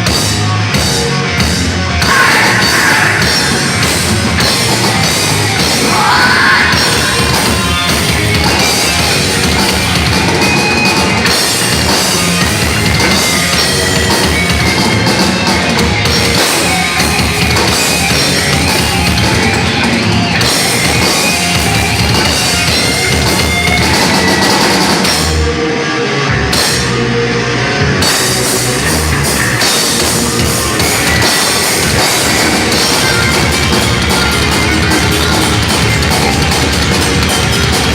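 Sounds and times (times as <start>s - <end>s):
drum kit: 0.0s - 25.6s, 26.4s - 27.2s, 27.8s - 37.9s
bass guitar: 0.0s - 37.9s
distorted electric guitars: 0.0s - 37.9s.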